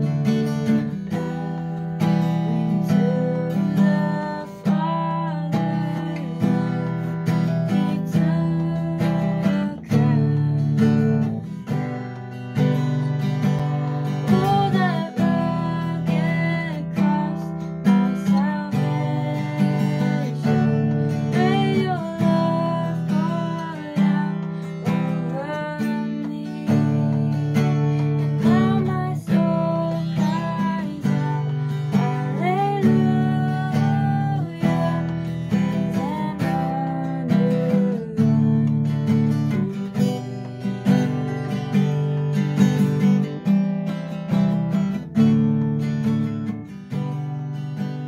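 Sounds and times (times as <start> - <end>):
acoustic guitar strumming: 0.0 - 48.0
sliding guitar melody: 0.0 - 48.0.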